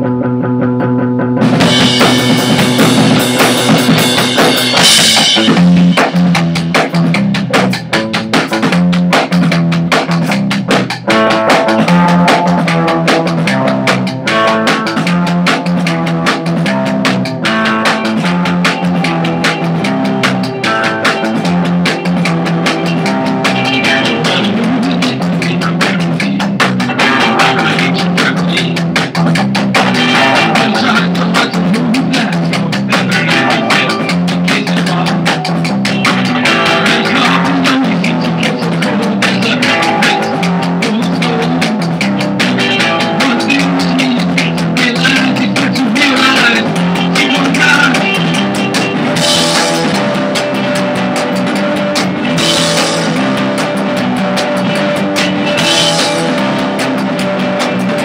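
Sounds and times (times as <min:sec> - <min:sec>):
rock band playing: 0:00.0 - 0:58.0
drum kit steady beat: 0:01.4 - 0:58.0.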